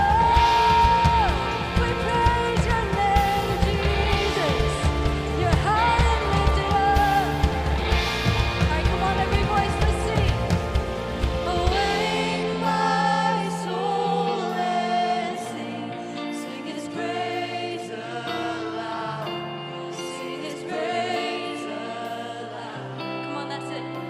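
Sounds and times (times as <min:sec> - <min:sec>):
choir singing gospel: 0:00.0 - 0:24.0.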